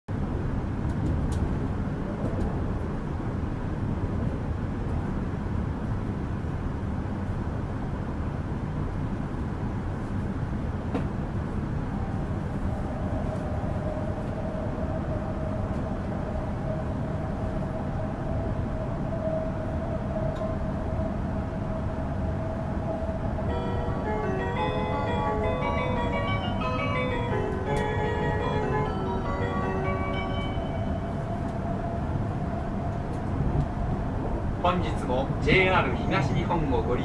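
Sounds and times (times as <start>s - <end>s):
train rumble from inside: 0.1s - 37.0s.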